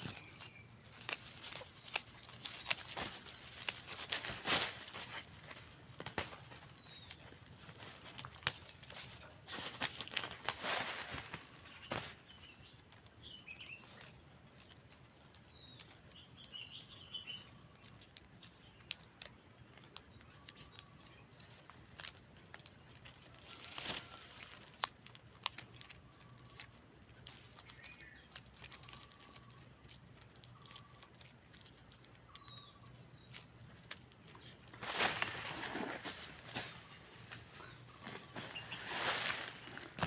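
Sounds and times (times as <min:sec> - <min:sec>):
faint birdsong: 0:00.0 - 0:40.0
rustle: 0:00.0 - 0:40.0.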